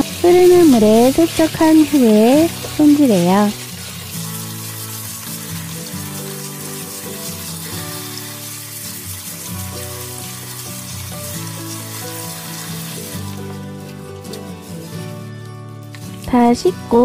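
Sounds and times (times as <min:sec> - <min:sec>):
background music: 0:00.0 - 0:17.0
tap water running and splashing: 0:00.0 - 0:17.0.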